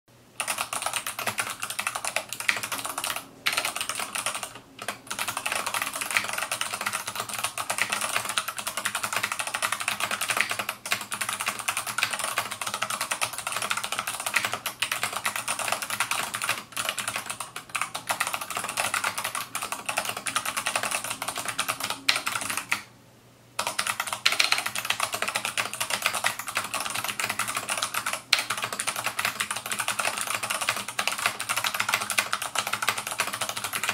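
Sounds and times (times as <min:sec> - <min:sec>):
fast typing on clicky keyboard: 0:00.4 - 0:22.9, 0:23.6 - 0:33.9.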